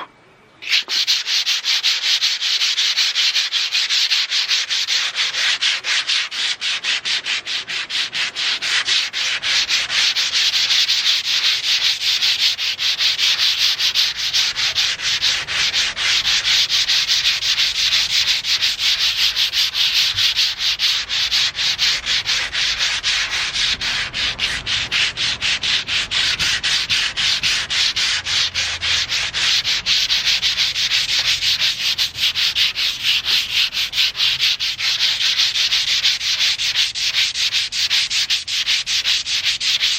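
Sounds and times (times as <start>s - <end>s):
sandpaper rubbing on painted metal: 0.6s - 39.9s.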